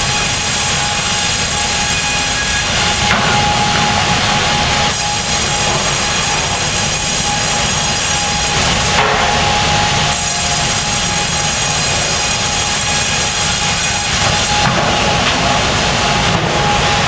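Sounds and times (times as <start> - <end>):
saw cutting through log: 0.0 - 17.0.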